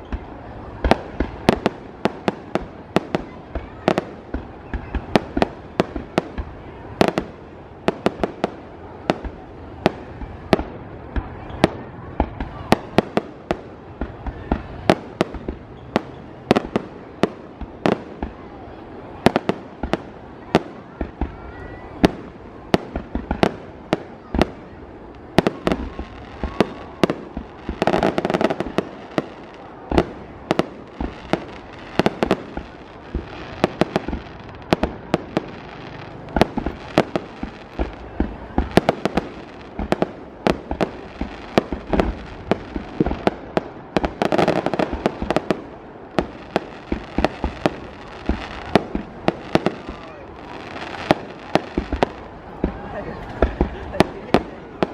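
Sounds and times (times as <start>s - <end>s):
fireworks bangs and pops: 0.0s - 54.9s.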